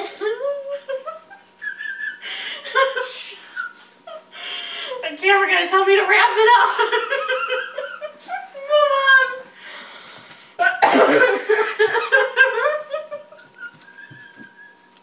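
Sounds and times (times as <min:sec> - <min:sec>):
woman laughing: 0:00.0 - 0:05.0, 0:06.5 - 0:09.4, 0:10.6 - 0:14.8.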